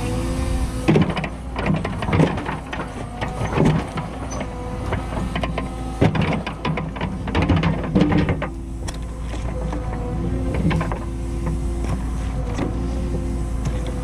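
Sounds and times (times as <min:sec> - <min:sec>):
excavator diesel engine running: 0:00.0 - 0:14.0
excavator bucket clanking on rock: 0:00.8 - 0:14.0.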